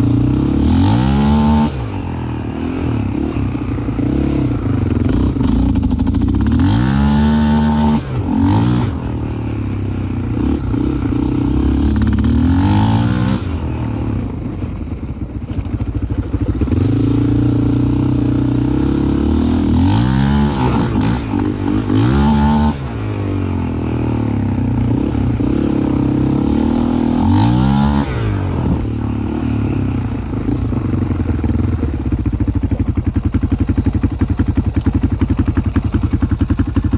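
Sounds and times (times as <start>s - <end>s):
engine revving at low revs: 0.0s - 14.9s, 16.4s - 36.9s.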